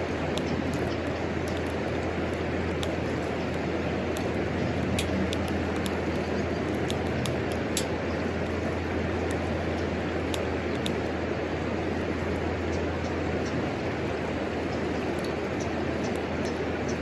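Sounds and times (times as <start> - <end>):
fire crackling and popping: 0.0 - 17.0
steady rushing fire noise: 0.0 - 17.0.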